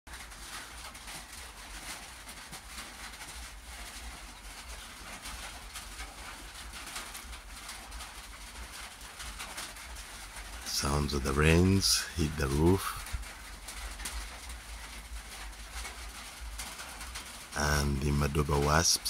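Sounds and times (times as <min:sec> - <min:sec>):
rain falling on a roof: 0:00.1 - 0:19.0.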